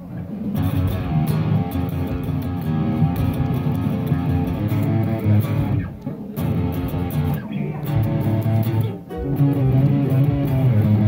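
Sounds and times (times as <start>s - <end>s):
electric guitar riff: 0.4s - 11.0s.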